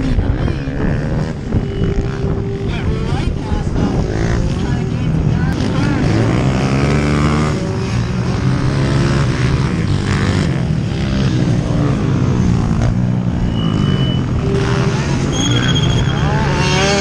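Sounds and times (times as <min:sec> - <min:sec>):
pit bike engines racing: 0:00.0 - 0:17.0.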